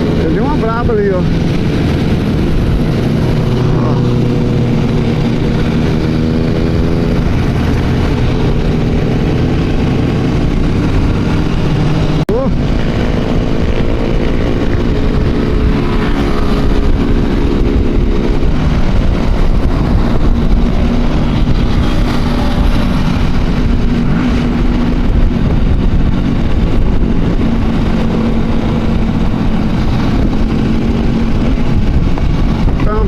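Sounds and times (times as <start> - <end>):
motorcycle engines running: 0.0 - 33.0
wind rumble on microphone: 0.0 - 33.0.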